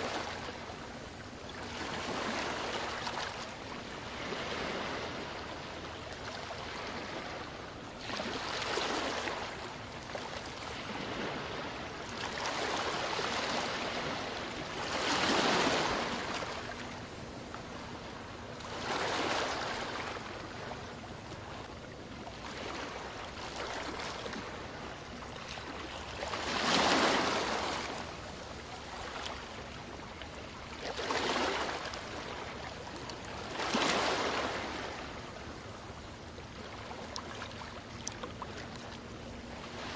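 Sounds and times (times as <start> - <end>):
small waves washing onto beach: 0.0 - 39.9.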